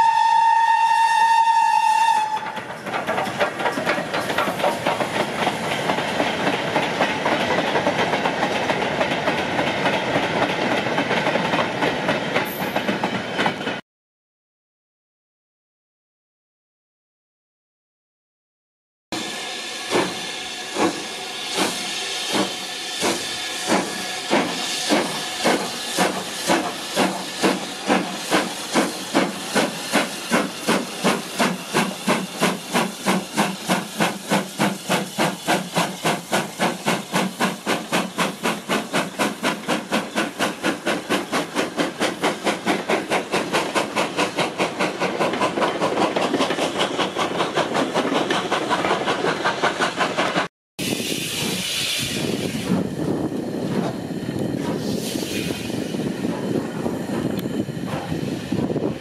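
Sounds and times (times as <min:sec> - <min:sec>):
steam hissing: 0:00.0 - 0:10.2, 0:19.2 - 0:59.0
steam locomotive exhaust chuffs: 0:00.0 - 0:13.1, 0:19.2 - 0:59.0.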